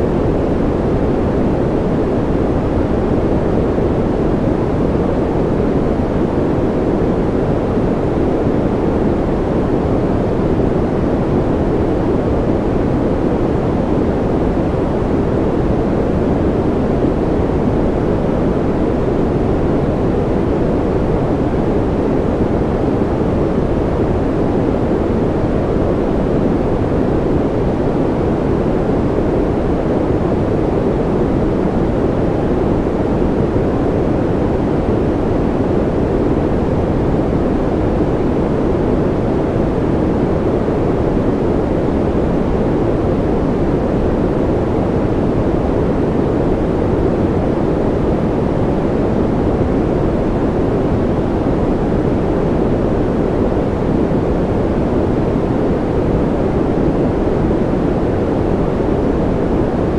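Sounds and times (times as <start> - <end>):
deep white noise rumble: 0.0 - 59.9.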